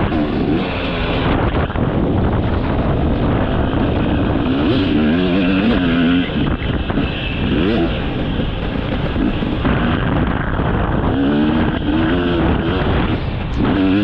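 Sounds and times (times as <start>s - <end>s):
dirt bike engine revving: 0.0s - 14.0s
wind on microphone: 0.0s - 14.0s.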